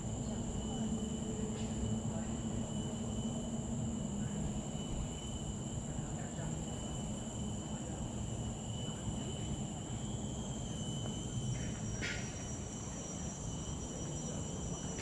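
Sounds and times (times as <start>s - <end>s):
insects droning: 0.0s - 15.0s
rasping insect call: 0.0s - 15.0s.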